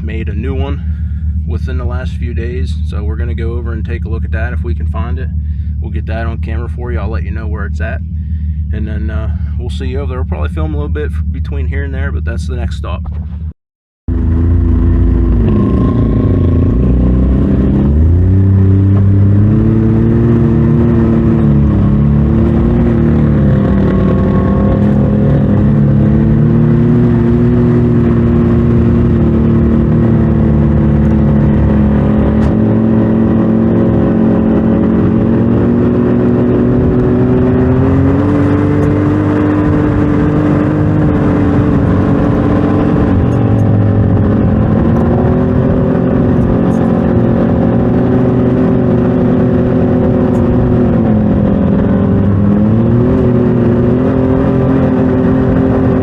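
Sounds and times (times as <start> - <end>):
utility vehicle engine running: 0.0 - 13.5, 14.1 - 56.0.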